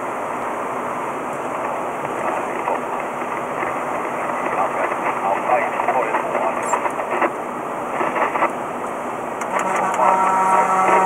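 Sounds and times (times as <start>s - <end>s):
road noise inside moving car: 0.0s - 11.0s.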